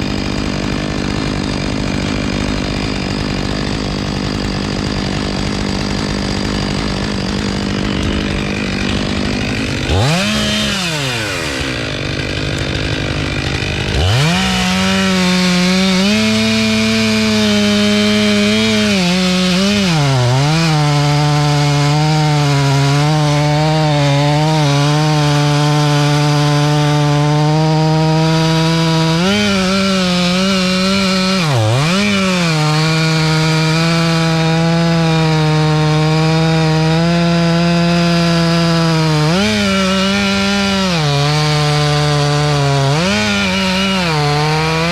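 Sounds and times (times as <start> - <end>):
chainsaw sawing wood: 0.0 - 44.9.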